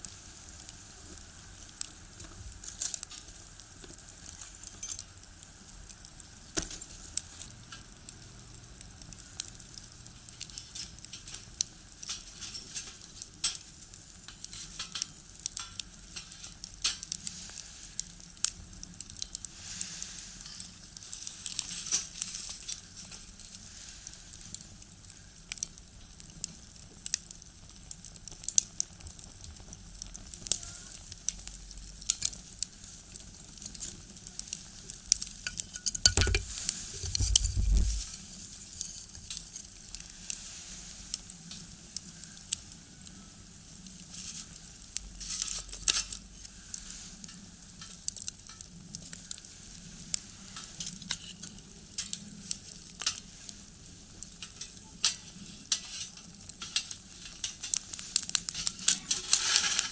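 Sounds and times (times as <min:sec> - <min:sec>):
firewood crackling and popping: 0:00.0 - 0:59.9
hiss of flames: 0:00.0 - 0:59.9.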